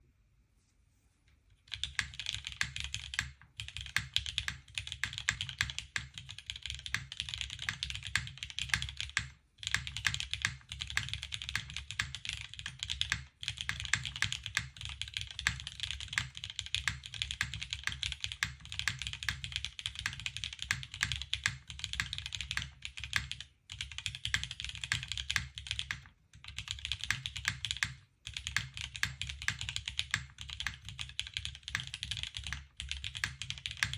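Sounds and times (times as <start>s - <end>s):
mechanical keyboard keys clacking: 1.7s - 33.9s.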